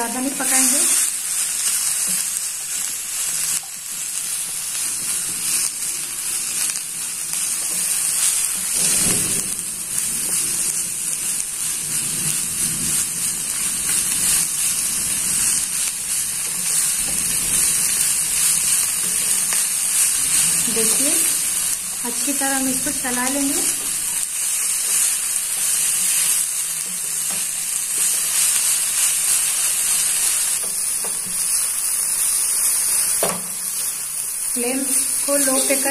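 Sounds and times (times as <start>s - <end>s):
vegetables sizzling in a frying pan: 0.0s - 35.9s.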